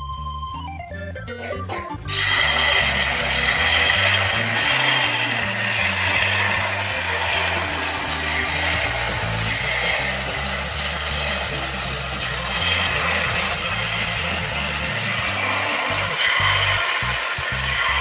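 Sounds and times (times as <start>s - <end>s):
background music: 0.0s - 18.0s
batter sizzling and crackling: 2.1s - 18.0s.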